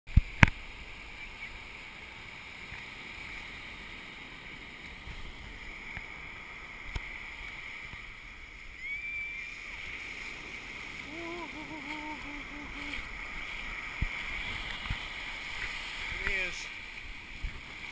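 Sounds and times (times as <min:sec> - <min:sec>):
ocean surf: 0:00.1 - 0:17.9.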